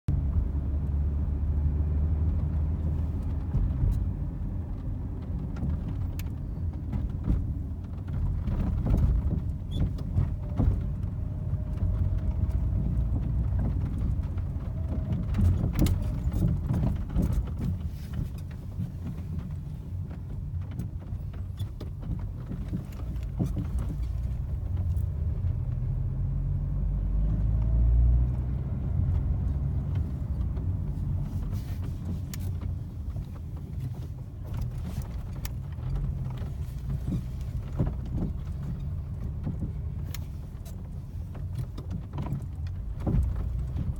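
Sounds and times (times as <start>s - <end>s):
car engine rumbling: 0.1s - 43.9s.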